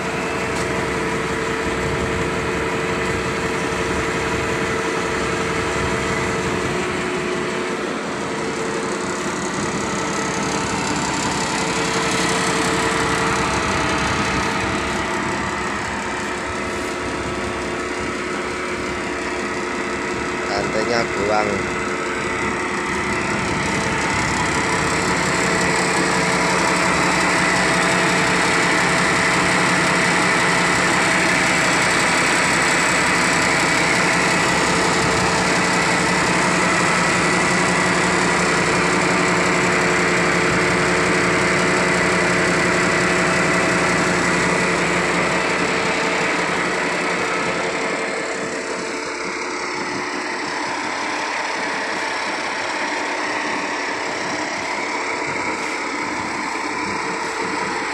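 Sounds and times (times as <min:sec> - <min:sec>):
diesel engine running: 0:00.0 - 0:57.9
held whine: 0:00.0 - 0:57.9.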